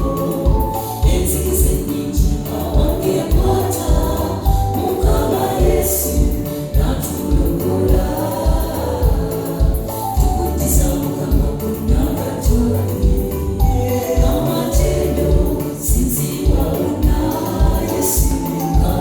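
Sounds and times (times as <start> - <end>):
gospel choir singing: 0.0 - 19.0
steady drum beat: 0.0 - 19.0.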